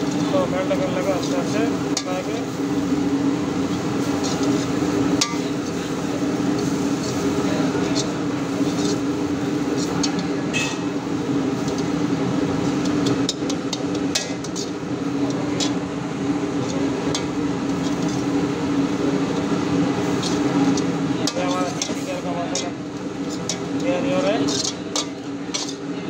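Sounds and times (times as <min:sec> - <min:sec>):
metal spatula scraping wok: 0:00.0 - 0:26.0
steady hum: 0:00.0 - 0:26.0.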